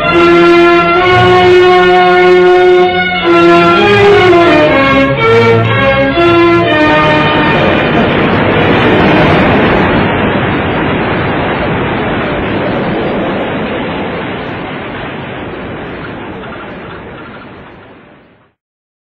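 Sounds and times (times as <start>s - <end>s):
steady rushing noise: 0.0s - 18.5s.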